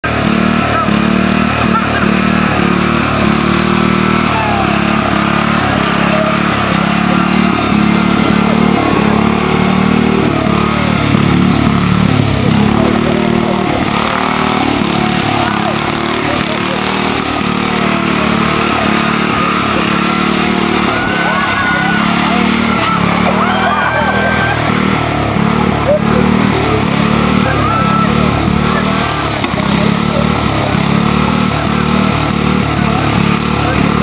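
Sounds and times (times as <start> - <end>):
lawn tractor engine running hard: 0.0 - 34.0.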